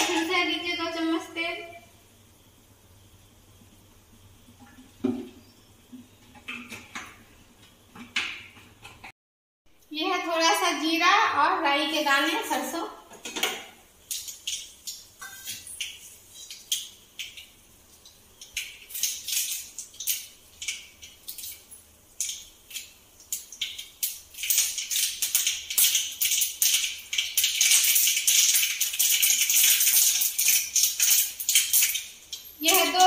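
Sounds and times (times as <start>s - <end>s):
seeds popping in hot oil: 1.8s - 9.1s, 12.2s - 33.0s.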